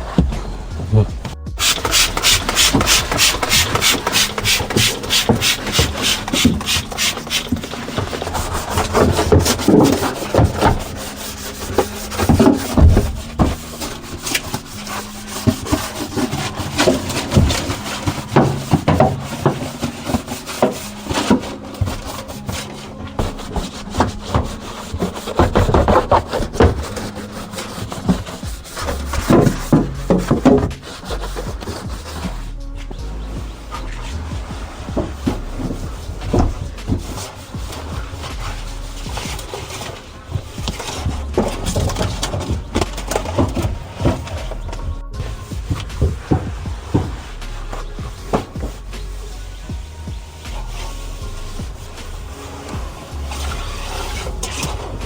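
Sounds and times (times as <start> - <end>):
stiff brush scrubbing: 0.0 - 55.0.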